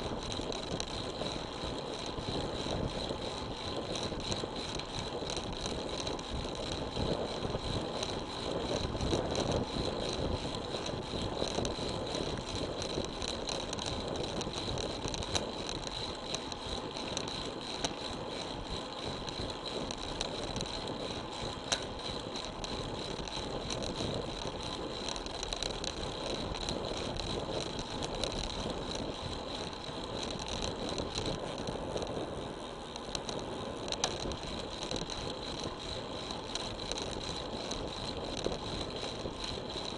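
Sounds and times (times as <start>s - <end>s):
bike rattles and ticks: 0.0s - 39.9s.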